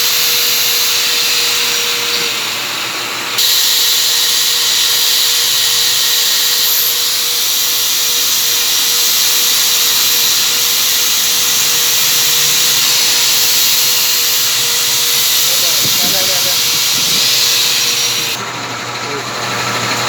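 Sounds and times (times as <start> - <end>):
rushing hiss of air: 0.0 - 18.4.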